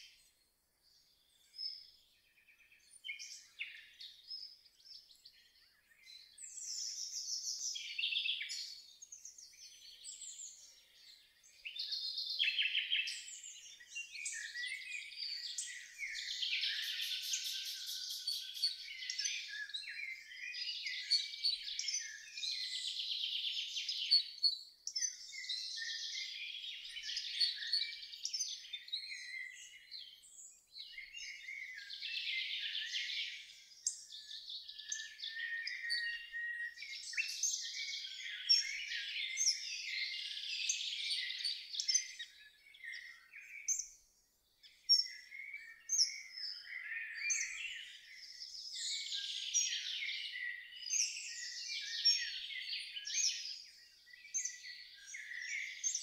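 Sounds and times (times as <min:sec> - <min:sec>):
birds singing and chirping: 0:00.0 - 0:56.0.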